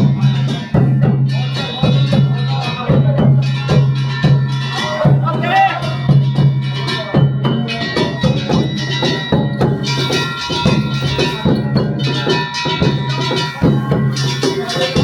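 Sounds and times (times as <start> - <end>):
drums: 0.0 - 15.0
metal bells ringing: 0.0 - 15.0.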